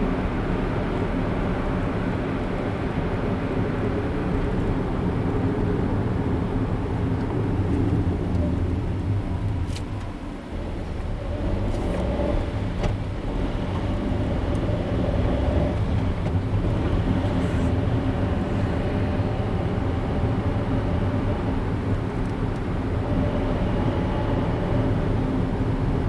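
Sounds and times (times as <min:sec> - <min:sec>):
car engine hum: 0:00.0 - 0:26.0
road noise: 0:00.0 - 0:26.0.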